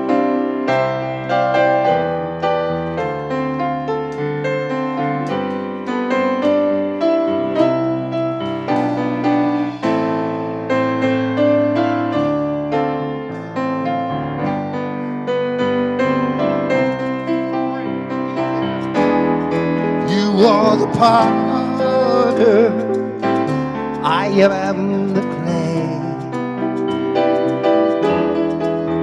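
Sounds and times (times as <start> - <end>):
keyboard playing soft piano chords: 0.0 - 29.0.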